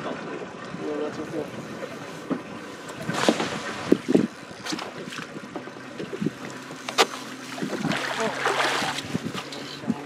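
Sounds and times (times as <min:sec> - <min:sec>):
water splashing: 0:00.0 - 0:10.0.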